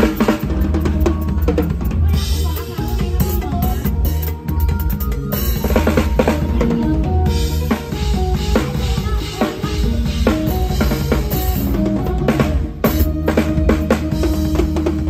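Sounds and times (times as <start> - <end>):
band playing bass and melody: 0.0 - 15.0
drum kit playing: 0.0 - 15.0.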